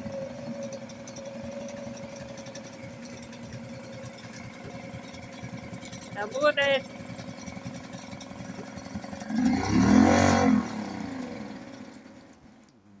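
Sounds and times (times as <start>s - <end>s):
boat motor revving: 0.0s - 12.4s.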